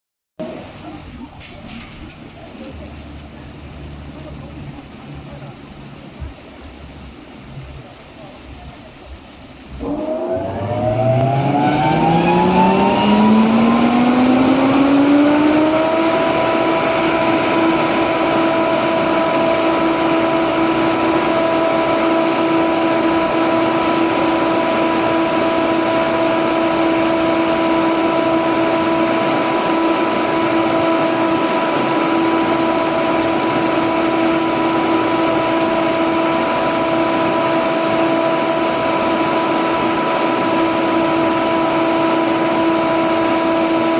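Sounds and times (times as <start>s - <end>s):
ventilation fan humming and whining: 0.4s - 43.9s.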